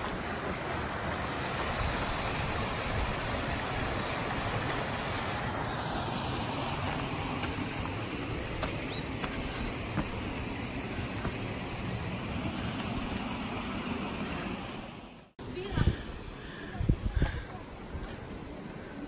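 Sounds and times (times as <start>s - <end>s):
small waterfall splashing: 0.0s - 15.3s.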